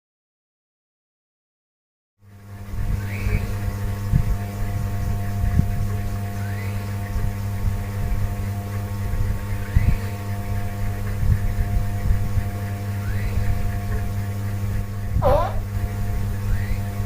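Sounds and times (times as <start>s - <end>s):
low hum with higher tones: 2.2s - 17.0s.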